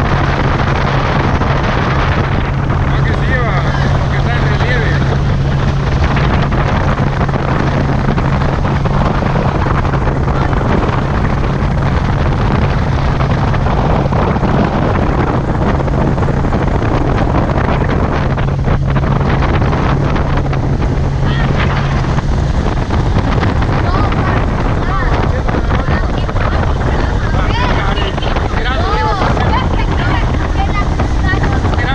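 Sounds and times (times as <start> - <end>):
outboard motor running: 0.0 - 31.9
water rushing past hull: 0.0 - 31.9
wind buffeting microphone: 0.0 - 31.9.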